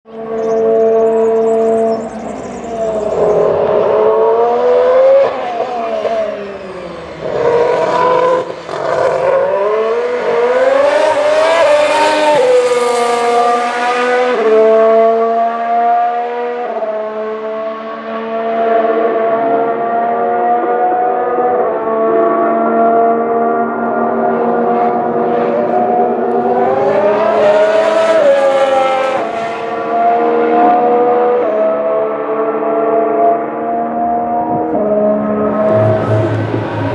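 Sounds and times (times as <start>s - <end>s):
racing car engine accelerating: 0.1s - 36.9s.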